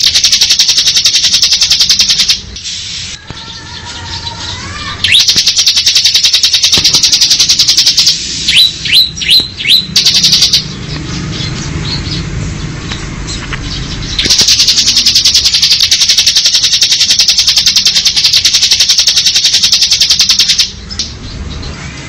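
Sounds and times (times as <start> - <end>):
bird singing rapid trill: 0.0 - 22.0.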